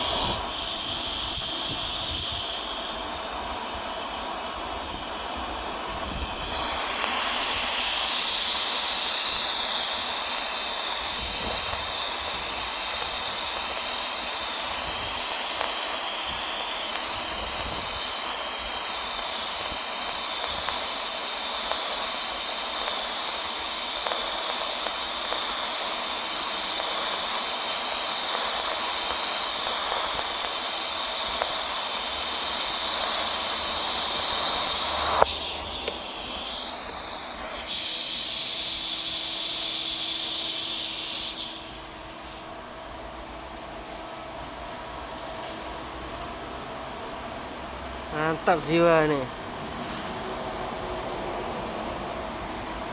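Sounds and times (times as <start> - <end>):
welding arc hissing: 0.0 - 44.0, 47.3 - 49.3.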